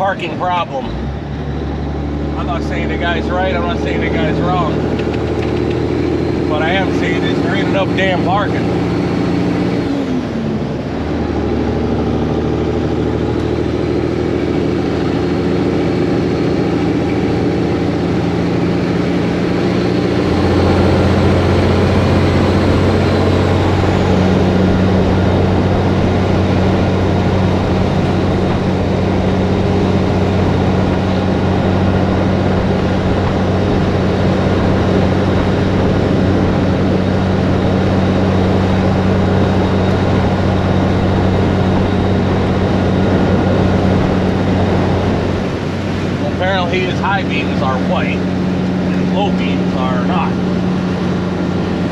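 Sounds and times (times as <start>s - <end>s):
truck diesel engine running: 0.0s - 51.9s.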